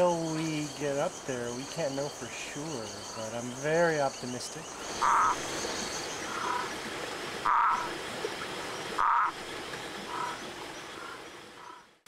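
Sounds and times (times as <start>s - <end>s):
frog calling: 0.0s - 6.8s, 7.4s - 8.0s, 8.9s - 9.4s, 10.0s - 12.0s.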